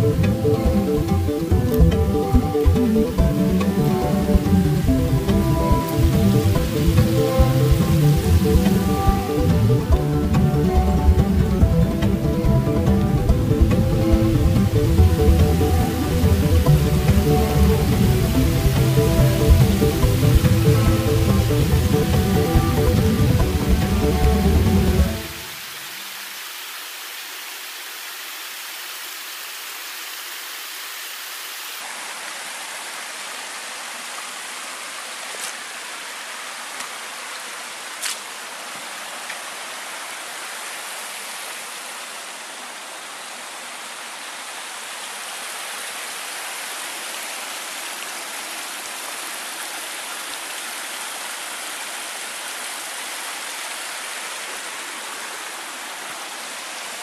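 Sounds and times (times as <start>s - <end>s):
brook flowing: 0.0s - 57.0s.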